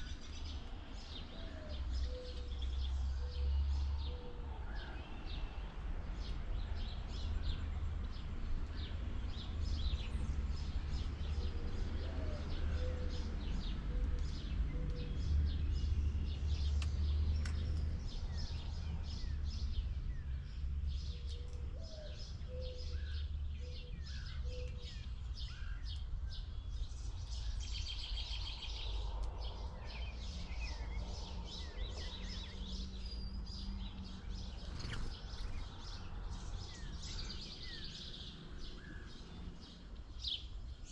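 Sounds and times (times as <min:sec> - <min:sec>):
wild birds chirping: 0:00.0 - 0:40.9.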